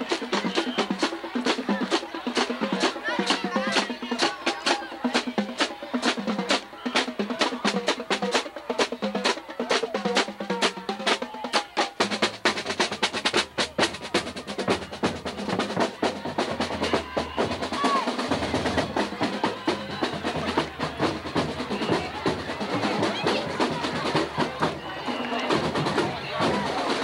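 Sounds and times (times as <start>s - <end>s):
marching drumline cadence: 0.0s - 27.0s.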